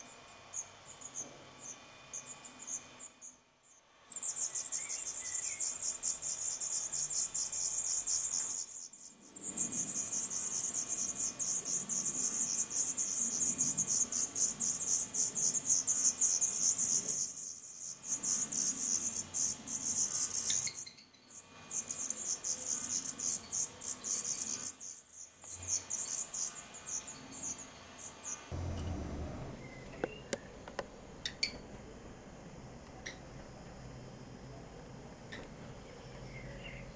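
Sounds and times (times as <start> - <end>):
nestlings begging chittering: 0.5 - 30.5.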